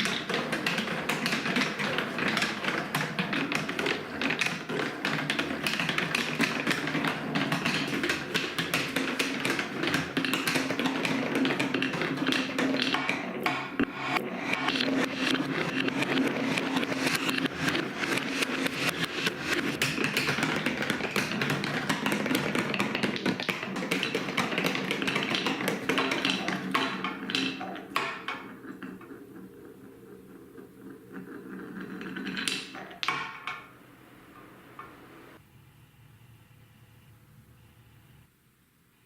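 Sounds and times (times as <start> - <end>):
marbles rattling down track: 0.0 - 33.6.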